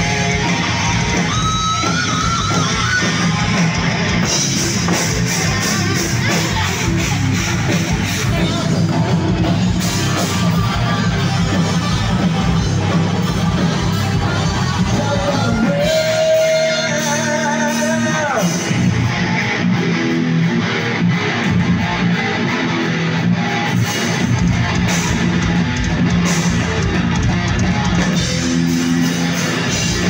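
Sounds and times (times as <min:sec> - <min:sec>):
heavy metal band playing: 0:00.0 - 0:30.0.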